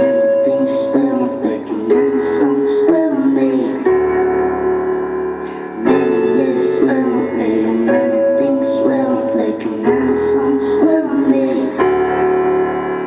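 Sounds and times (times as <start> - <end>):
live band with guitars: 0.0 - 13.0
person singing: 0.0 - 13.0.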